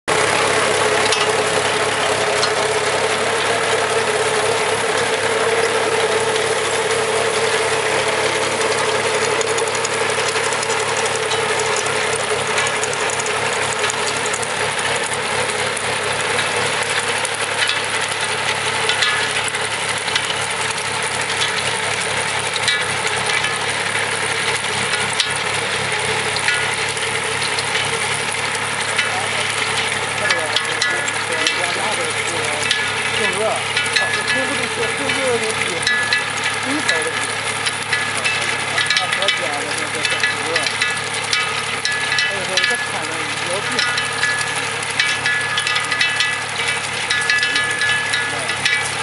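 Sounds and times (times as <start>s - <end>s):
harvester clattering and rattling: 0.0s - 49.0s
machine hum: 0.0s - 49.0s.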